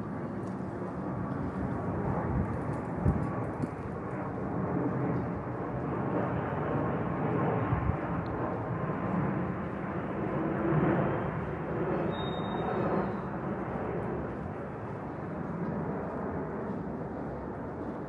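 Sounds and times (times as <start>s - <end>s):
street ambience: 0.0s - 18.0s.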